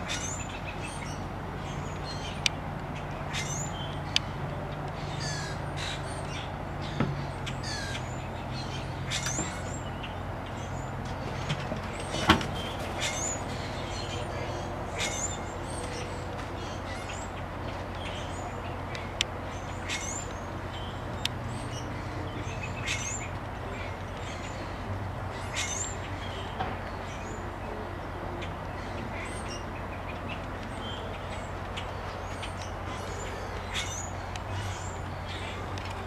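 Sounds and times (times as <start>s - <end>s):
birds chirping and squawking: 0.0s - 36.0s.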